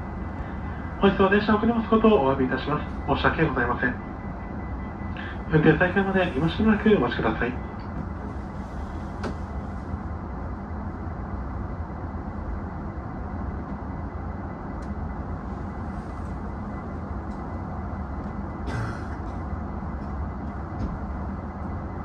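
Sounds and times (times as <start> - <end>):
electric train equipment humming: 0.0 - 22.0.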